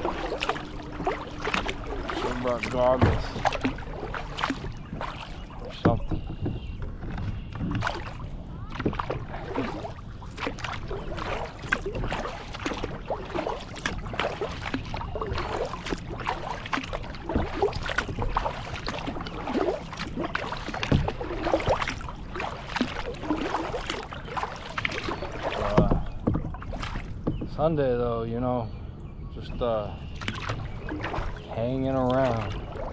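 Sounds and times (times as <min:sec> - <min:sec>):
water dripping and trickling: 0:00.0 - 0:27.1
paddle splashing in water: 0:00.0 - 0:27.7, 0:29.8 - 0:32.9.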